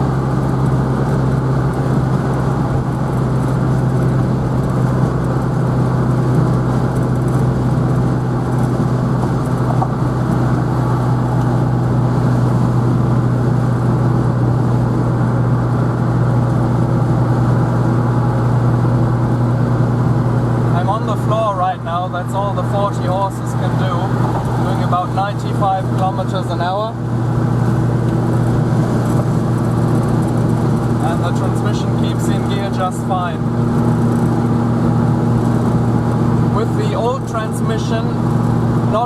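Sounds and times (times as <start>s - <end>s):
car engine at full throttle: 0.0s - 39.0s.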